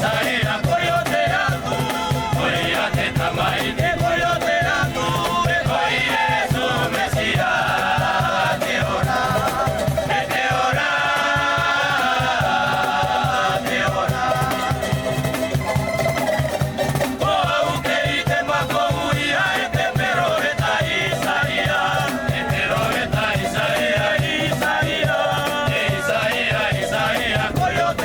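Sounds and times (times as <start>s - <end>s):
fast rhythmic beat: 0.0s - 28.0s
gospel choir singing: 0.0s - 28.0s.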